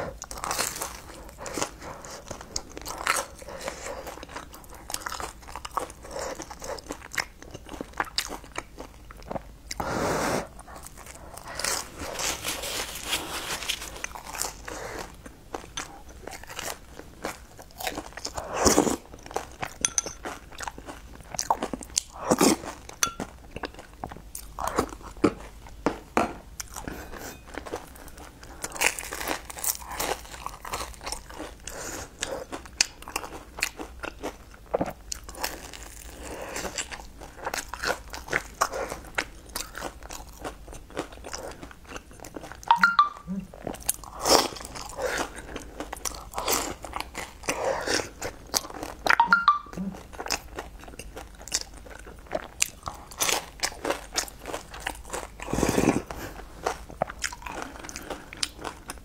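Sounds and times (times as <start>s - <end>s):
person chewing crunchy cookie: 0.0s - 59.0s.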